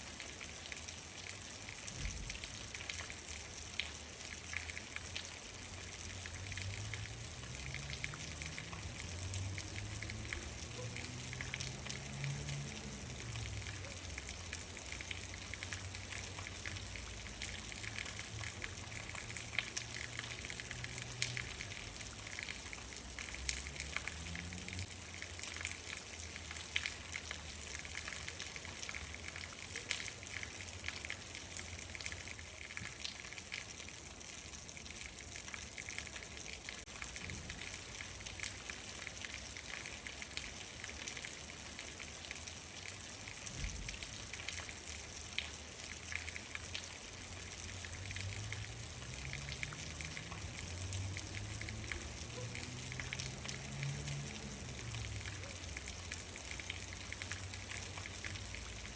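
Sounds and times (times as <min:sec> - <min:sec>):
steady rain on a surface: 0:00.0 - 0:58.9.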